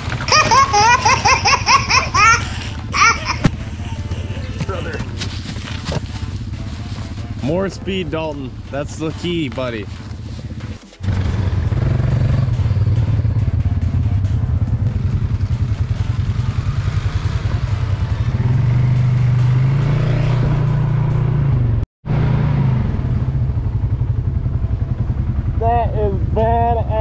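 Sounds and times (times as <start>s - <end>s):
off-road vehicle engine running: 0.0s - 27.0s.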